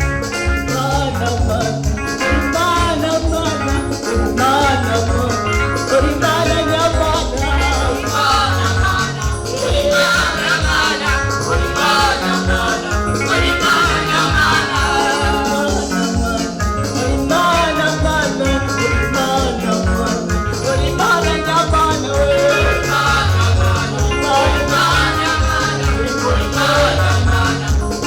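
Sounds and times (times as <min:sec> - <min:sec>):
gospel singing over a band: 0:00.0 - 0:28.0.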